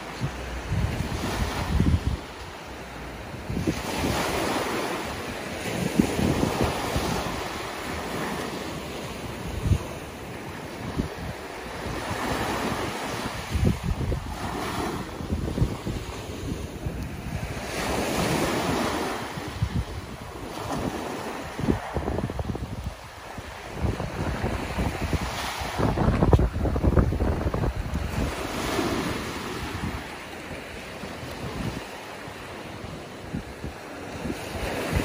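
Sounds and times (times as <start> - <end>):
surf waves breaking on sand: 0.0 - 35.0
wind buffeting microphone: 0.0 - 35.0.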